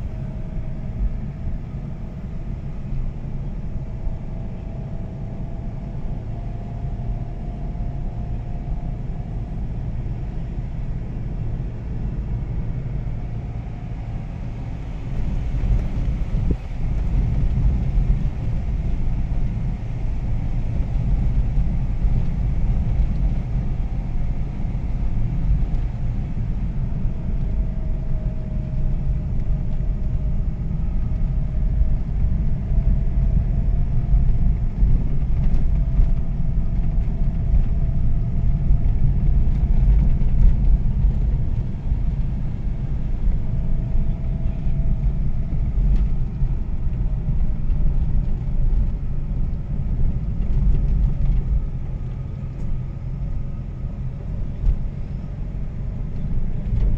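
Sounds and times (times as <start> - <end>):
car driving on rough road: 0.0 - 56.9.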